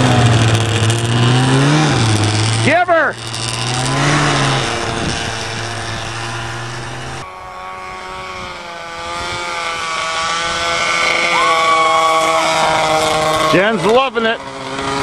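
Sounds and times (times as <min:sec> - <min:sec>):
distant snowmobile engines: 0:00.0 - 0:15.0
engine revving up: 0:00.0 - 0:15.0.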